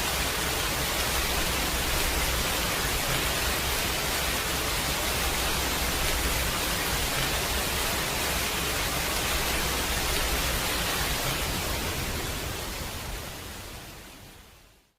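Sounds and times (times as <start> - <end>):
heavy rain hiss: 0.0 - 14.6.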